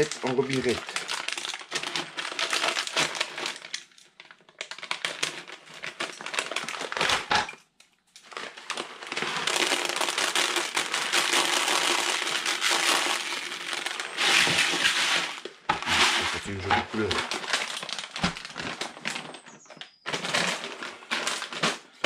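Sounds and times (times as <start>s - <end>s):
pellets rattling into plastic bucket: 0.0s - 7.6s, 8.2s - 22.0s
plastic bag crinkling: 0.0s - 22.0s.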